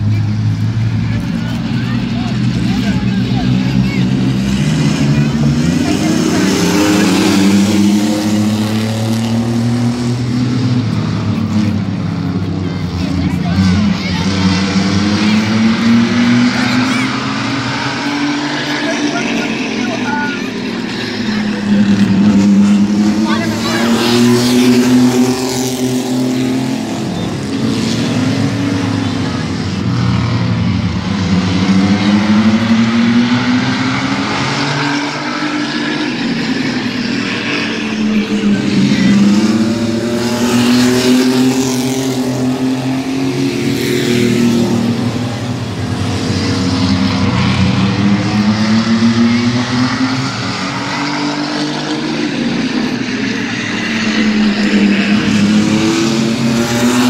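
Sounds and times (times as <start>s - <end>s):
race truck engines passing: 0.0s - 57.0s.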